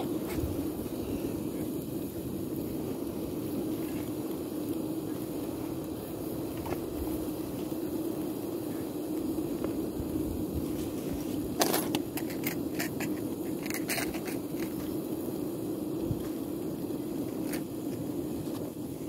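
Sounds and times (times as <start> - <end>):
gas camping stove roaring: 0.0 - 19.0.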